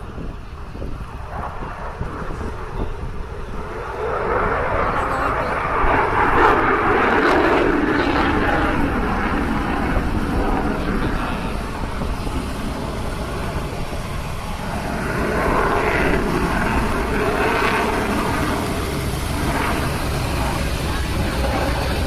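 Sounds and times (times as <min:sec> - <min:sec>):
propeller aircraft flying over: 0:00.0 - 0:22.0.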